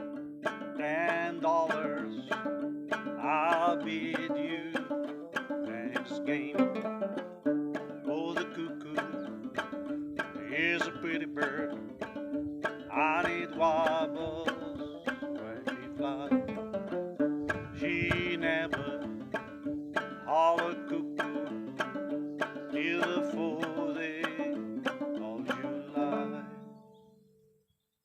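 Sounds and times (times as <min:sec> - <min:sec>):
person singing: 0:00.0 - 0:16.8, 0:17.4 - 0:26.7
gourd banjo picking: 0:00.0 - 0:27.2.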